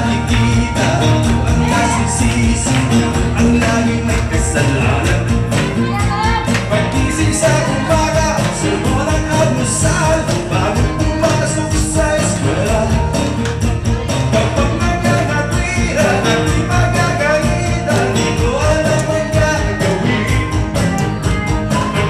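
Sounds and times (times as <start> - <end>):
live band playing upbeat song: 0.0 - 22.0.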